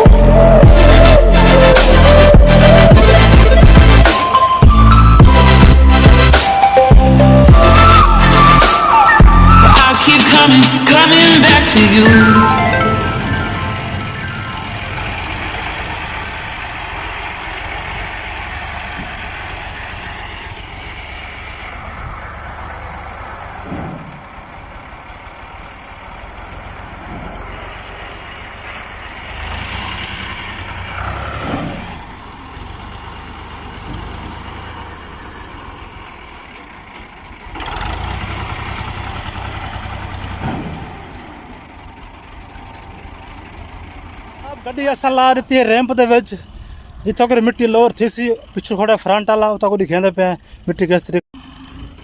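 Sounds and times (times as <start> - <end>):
diesel tractor engine running: 0.0 - 52.0.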